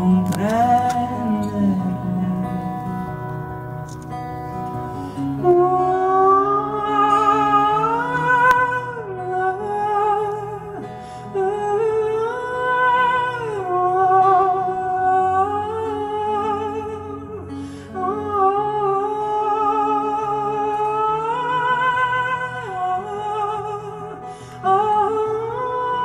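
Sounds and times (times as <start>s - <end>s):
man singing with vibrato: 0.0s - 3.6s, 5.2s - 26.0s
guitar accompaniment: 0.0s - 26.0s.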